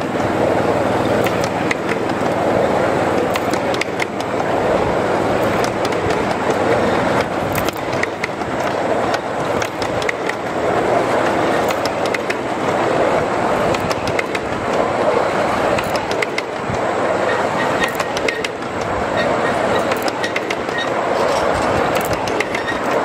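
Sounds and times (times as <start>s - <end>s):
small steel wheels rumbling on track: 0.0s - 23.0s
wheels clicking over rail joints: 0.0s - 23.0s.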